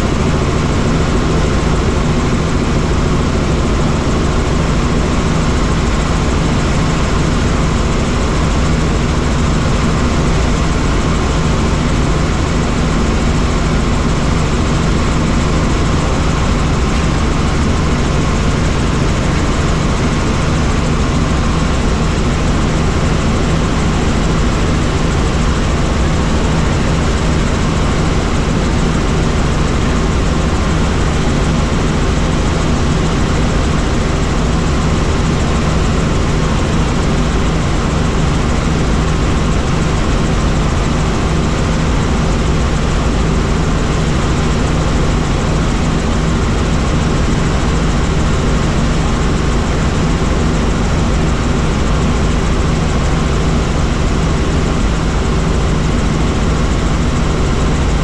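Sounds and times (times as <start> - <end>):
helicopter engine and rotors drone: 0.0 - 58.0.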